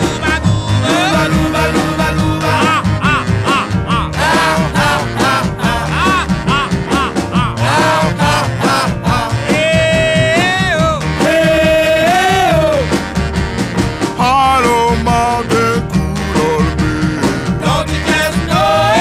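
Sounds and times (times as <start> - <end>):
song with singing over a band: 0.0 - 13.4, 14.0 - 19.0.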